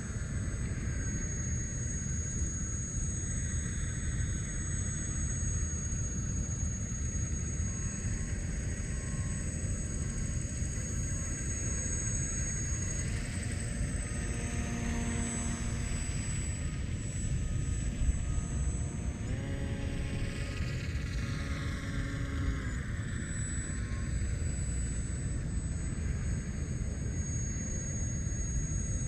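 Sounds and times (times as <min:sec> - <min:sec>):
high thin motor whine: 0:00.0 - 0:29.0
lower motor tones rising: 0:05.2 - 0:29.0.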